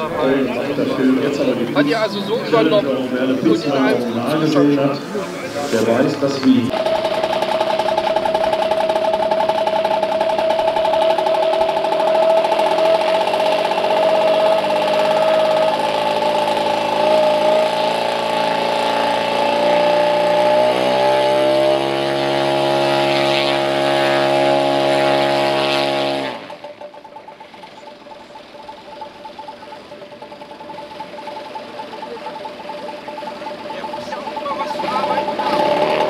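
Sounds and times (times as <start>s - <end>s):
model plane engine idling: 0.0s - 36.0s.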